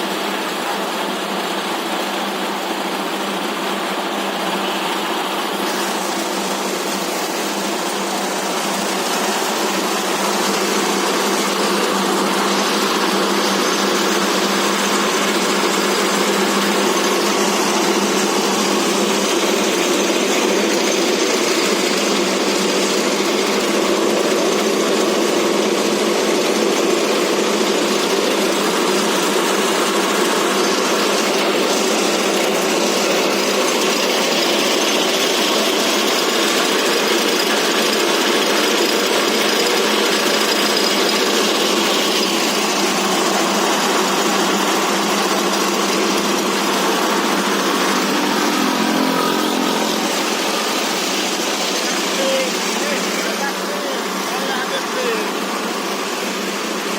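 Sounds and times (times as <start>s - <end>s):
diesel-driven pellet mill running: 0.0s - 56.9s.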